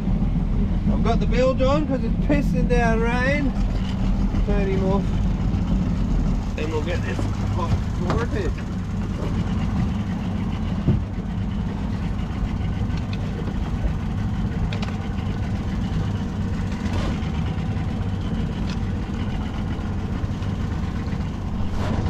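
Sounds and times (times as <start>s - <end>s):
outboard motor idling: 0.0s - 22.0s.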